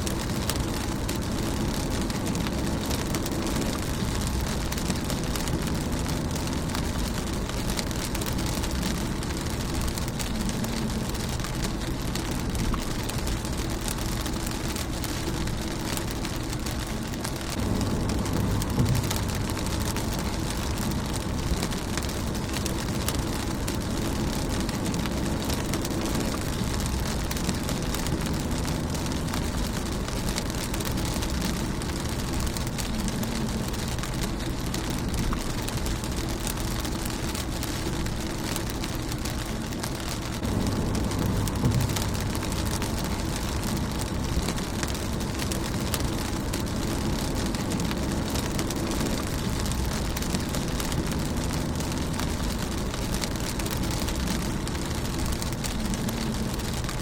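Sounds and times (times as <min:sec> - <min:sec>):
low rumble: 0:00.0 - 0:57.0
rain pattering on windshield: 0:00.0 - 0:57.0.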